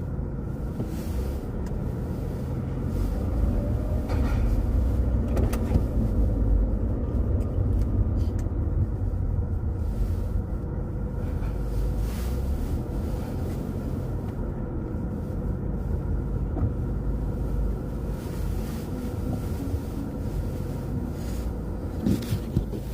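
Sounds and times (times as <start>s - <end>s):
low wind rumble on microphone: 0.0s - 22.9s
passing traffic: 0.0s - 22.9s.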